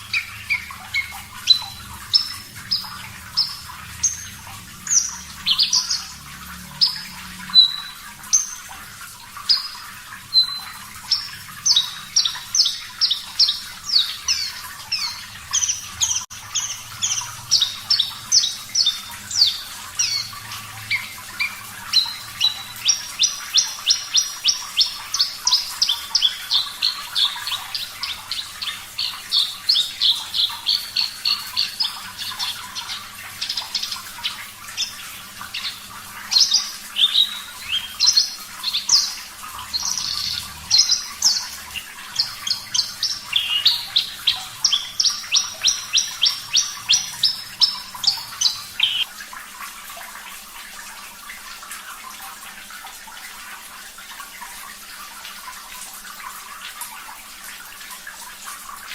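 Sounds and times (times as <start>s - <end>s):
lark singing high chirps and trills: 0.0s - 8.7s, 9.4s - 49.1s
faint running water: 0.0s - 58.9s.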